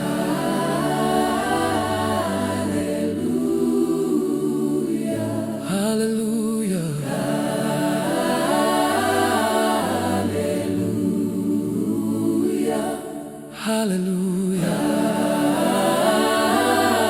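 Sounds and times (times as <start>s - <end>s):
a cappella voices singing harmonies: 0.0s - 17.0s.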